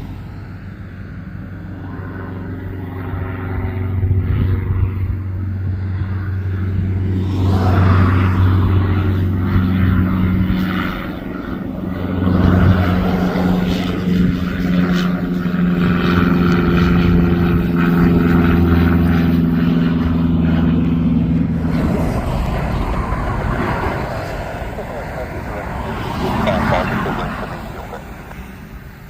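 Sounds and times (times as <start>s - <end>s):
aircraft engines droning: 0.0s - 29.0s.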